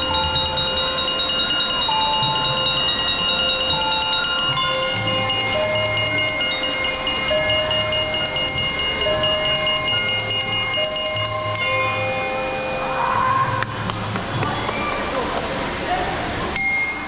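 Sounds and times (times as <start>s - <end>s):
bell lyre melody: 0.0s - 13.6s, 16.6s - 17.0s.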